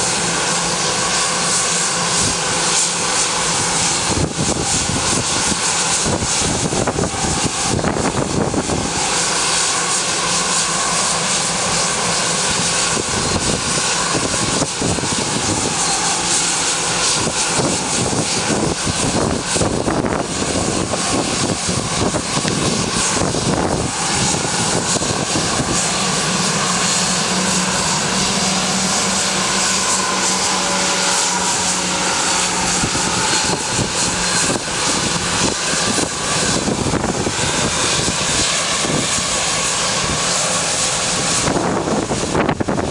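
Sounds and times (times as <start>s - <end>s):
jet engine whine: 0.0s - 42.9s
low hum: 0.0s - 42.9s.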